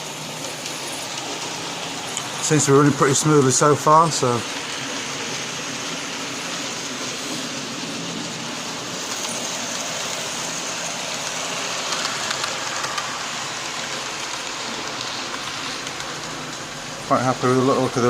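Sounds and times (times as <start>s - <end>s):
model trains whirring on track: 0.0s - 18.0s.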